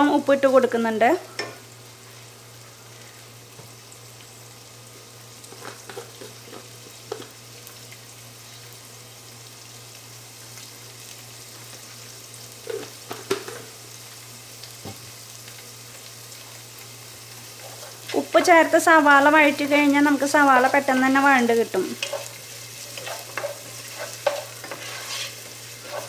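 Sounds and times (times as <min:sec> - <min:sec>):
onion sizzling in hot oil: 0:00.0 - 0:26.0.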